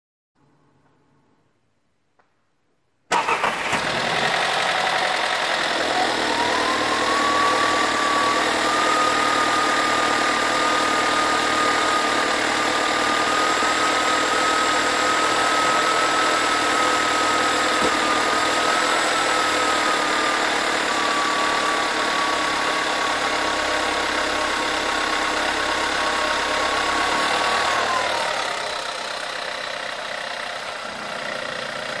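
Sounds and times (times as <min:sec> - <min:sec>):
car engine idling: 0:03.2 - 0:32.0.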